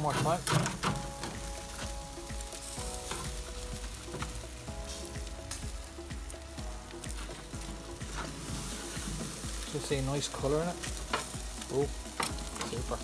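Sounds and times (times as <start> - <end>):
chicken sizzling on grill: 0.0 - 13.0.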